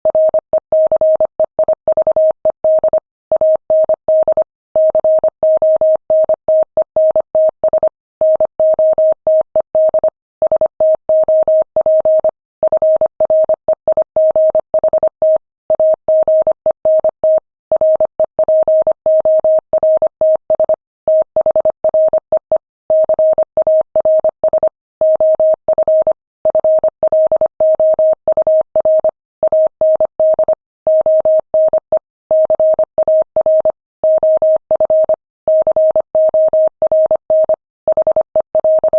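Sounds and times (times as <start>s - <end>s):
morse code beeps: 0.1s - 38.9s.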